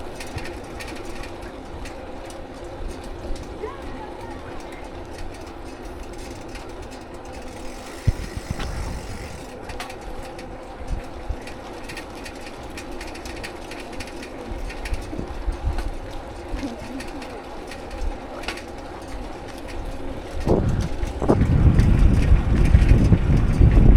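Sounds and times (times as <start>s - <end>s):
mechanical vehicle hum: 0.0s - 23.9s.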